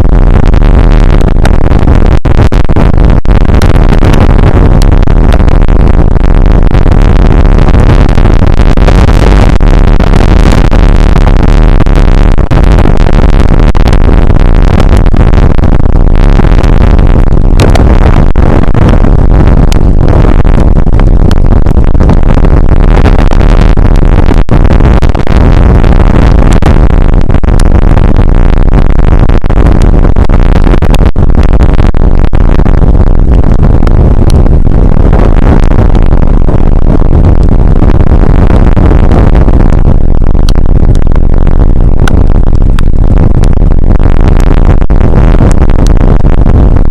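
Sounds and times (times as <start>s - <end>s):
distorted rain noise: 0.0s - 46.9s.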